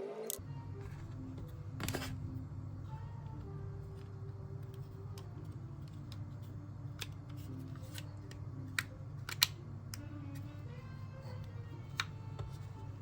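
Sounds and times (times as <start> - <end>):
faint background music: 0.0 - 13.0
steady low hum: 0.4 - 13.0.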